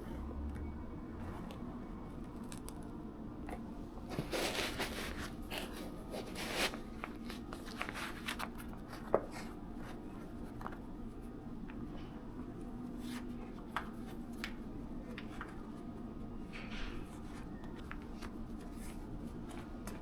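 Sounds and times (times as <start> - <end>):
rustling and crinkling: 1.2 - 20.0.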